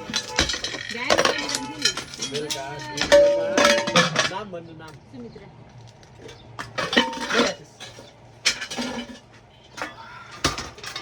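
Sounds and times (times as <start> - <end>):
metal pots clanking: 0.0 - 4.5, 6.2 - 11.0.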